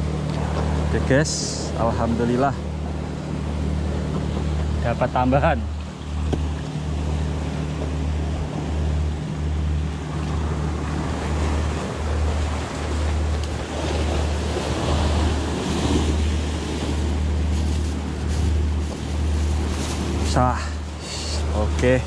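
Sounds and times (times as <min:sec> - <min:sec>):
sea surf washing against rocks: 0:00.0 - 0:22.0.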